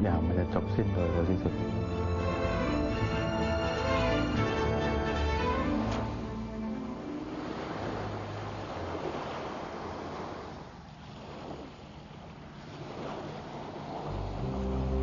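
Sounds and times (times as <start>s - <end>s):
waves breaking on beach: 1.5s - 15.0s.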